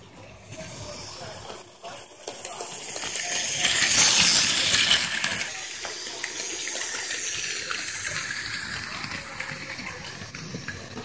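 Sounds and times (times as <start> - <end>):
toy train rattling whir: 0.4 - 11.0.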